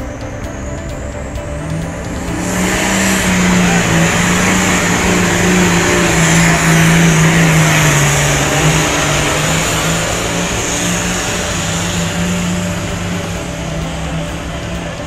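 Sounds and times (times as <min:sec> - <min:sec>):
diesel truck engine at full throttle: 0:00.0 - 0:15.0.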